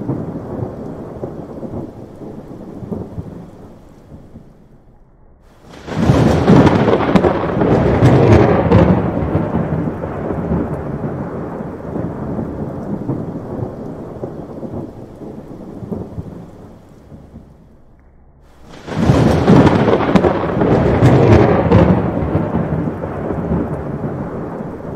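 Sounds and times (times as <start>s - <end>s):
thunder clap and rumble: 0.0s - 24.9s.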